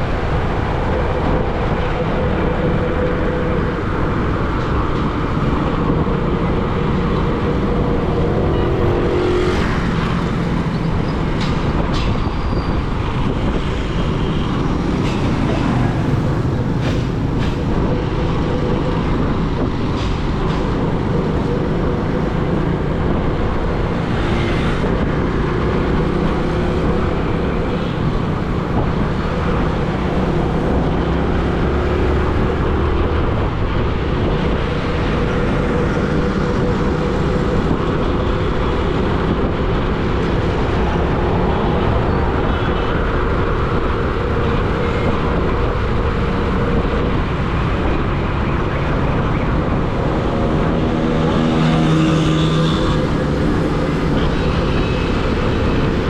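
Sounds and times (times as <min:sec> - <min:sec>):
steady traffic noise: 0:00.0 - 0:56.0
vehicle engines running: 0:00.0 - 0:56.0.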